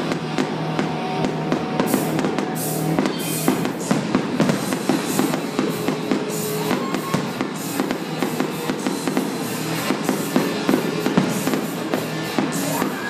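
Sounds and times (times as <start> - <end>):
fireworks bursting and crackling: 0.0 - 13.0
loud music with drums: 0.0 - 13.0.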